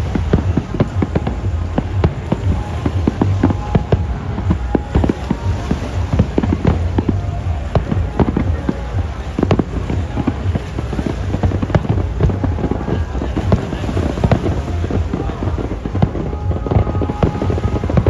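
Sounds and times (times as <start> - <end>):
fireworks bangs and crackles: 0.0 - 18.0
low rumble: 0.0 - 18.0.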